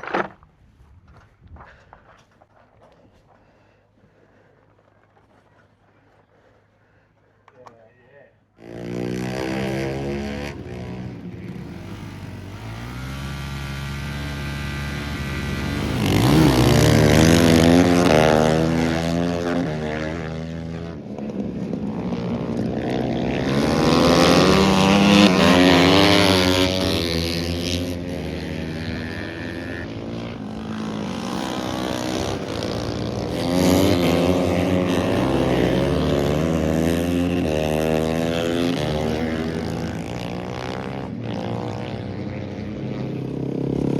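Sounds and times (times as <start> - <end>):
motorcycle engine revving: 8.5 - 43.9.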